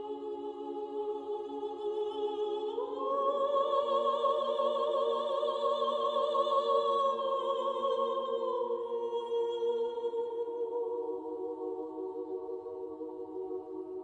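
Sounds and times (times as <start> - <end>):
solo voice singing a hymn: 0.0 - 14.0.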